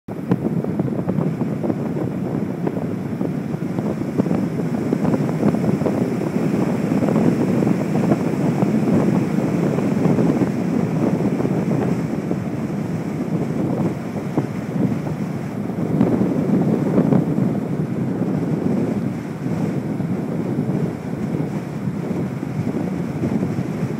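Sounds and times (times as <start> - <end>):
wind buffeting the microphone: 0.1 - 23.9.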